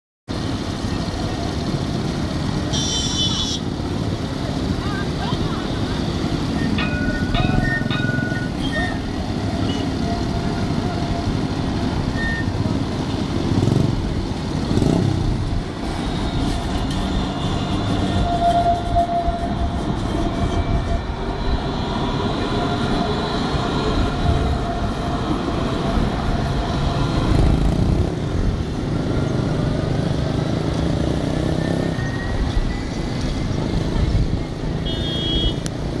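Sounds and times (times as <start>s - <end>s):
tram wheels rumbling on track: 0.3s - 2.8s, 3.4s - 36.0s
city traffic noise: 0.3s - 36.0s.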